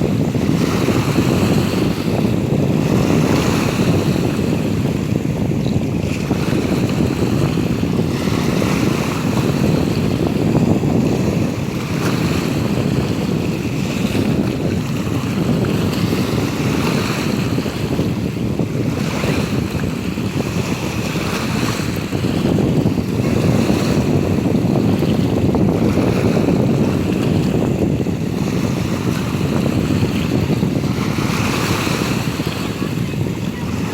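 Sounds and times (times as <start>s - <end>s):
sea surf: 0.0s - 33.9s
wind buffeting microphone: 0.0s - 33.9s.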